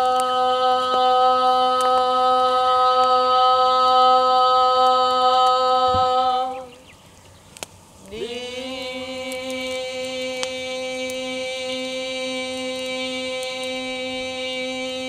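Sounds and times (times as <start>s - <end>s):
person chanting a long note: 0.0s - 6.8s, 8.1s - 15.0s.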